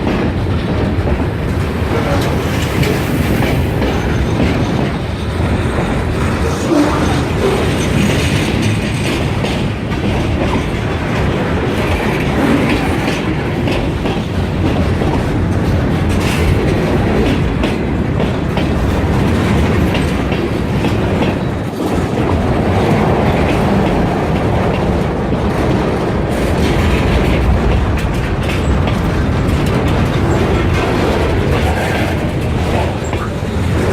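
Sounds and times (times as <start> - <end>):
freight train wheels clattering: 0.0 - 33.9.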